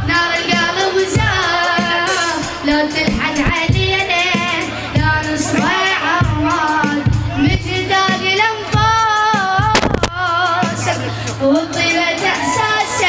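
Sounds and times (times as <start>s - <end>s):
steady drum beat: 0.0s - 12.4s
boy singing with vibrato: 0.0s - 13.0s.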